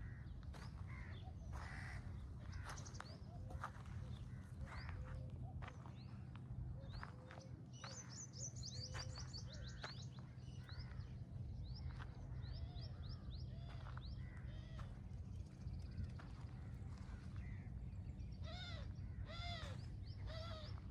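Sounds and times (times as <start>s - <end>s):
birds chirping: 0.0s - 20.9s
steady low rumble: 0.0s - 20.9s.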